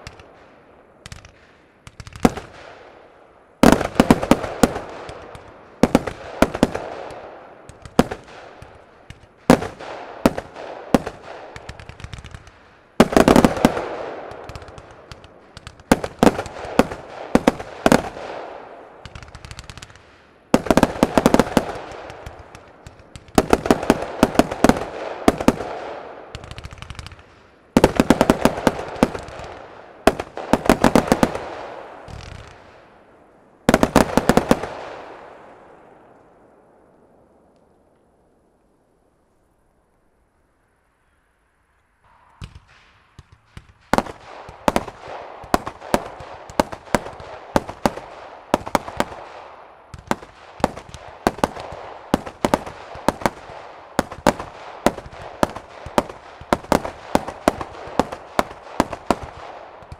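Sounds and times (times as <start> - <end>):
fireworks cracking: 0.0 - 36.4, 42.1 - 59.9
fireworks crackling: 0.0 - 38.0, 42.1 - 59.9.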